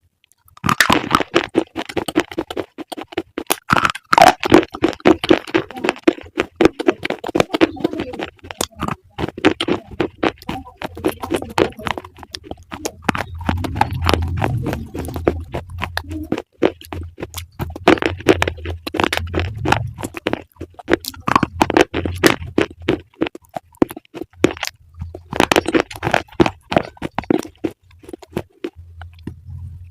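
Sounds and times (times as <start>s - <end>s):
crunching of crisp food chewed: 0.2s - 29.4s
low hum: 0.6s - 29.9s.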